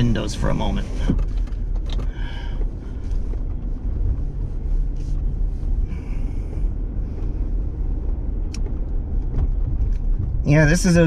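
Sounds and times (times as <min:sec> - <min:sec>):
engine rumble inside vehicle cab: 0:00.0 - 0:11.0.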